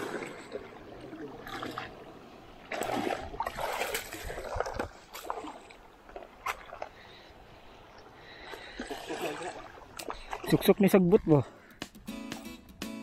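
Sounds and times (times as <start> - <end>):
water splashing and sloshing: 0.0 - 11.8.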